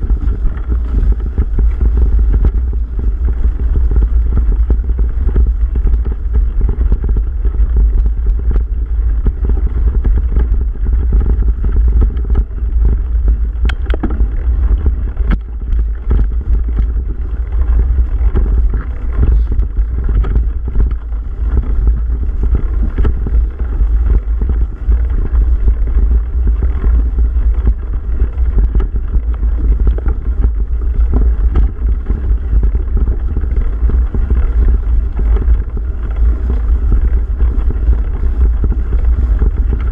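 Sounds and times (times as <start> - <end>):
bike clicks and rattles: 0.0 - 39.9
bike tyres rolling: 0.0 - 39.9
wind buffeting microphone: 0.0 - 39.9.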